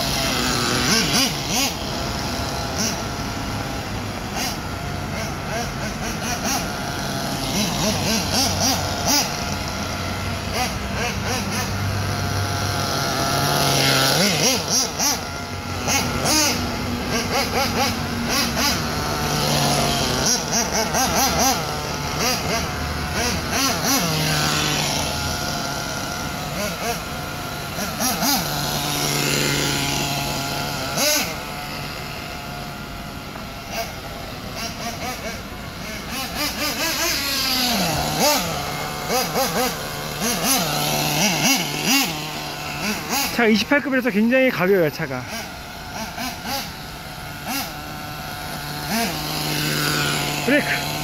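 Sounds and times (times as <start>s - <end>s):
small glow engine revving: 0.0s - 51.0s.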